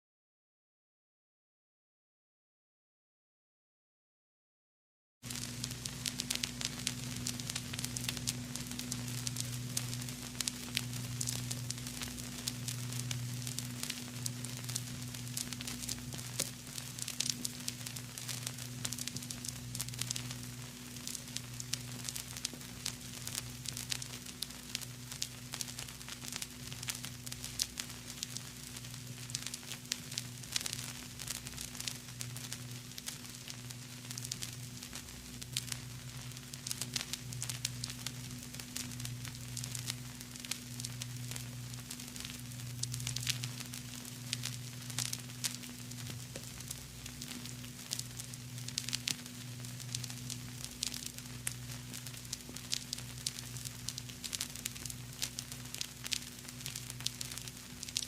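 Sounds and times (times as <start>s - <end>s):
vinyl record crackle: 5.2s - 58.0s.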